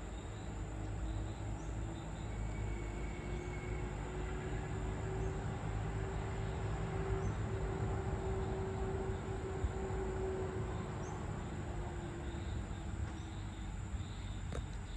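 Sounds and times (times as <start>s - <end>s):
engine-like drone: 0.0s - 14.9s
insects trilling: 0.0s - 14.9s.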